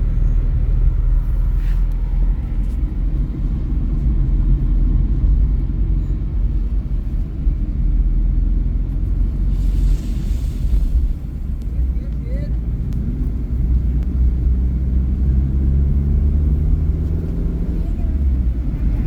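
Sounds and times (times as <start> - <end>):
vehicle driving on road: 0.0 - 19.0.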